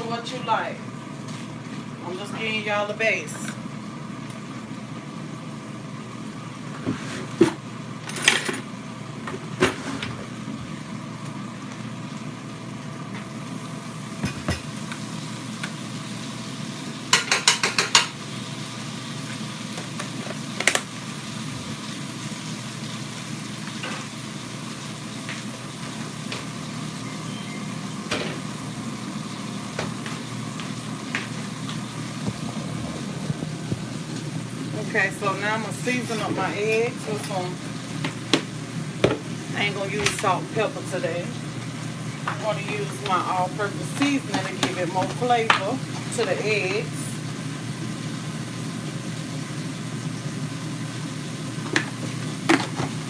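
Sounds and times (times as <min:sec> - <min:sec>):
sausage and onions sizzling: 0:10.2 - 0:53.0.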